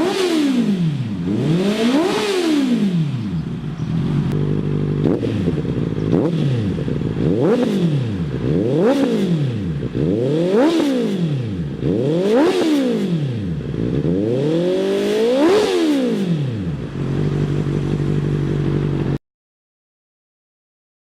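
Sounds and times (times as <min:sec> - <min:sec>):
motorcycle engine revving and idling: 0:00.0 - 0:19.2.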